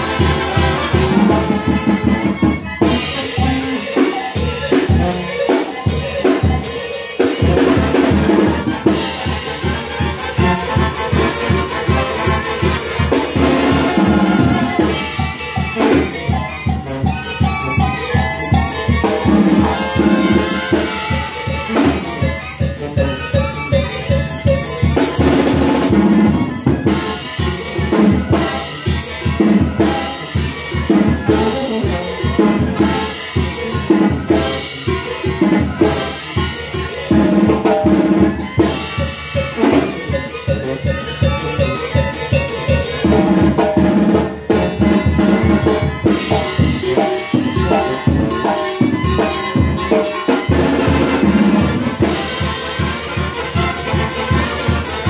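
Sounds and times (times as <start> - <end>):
brass band dance music: 0.0 - 55.0.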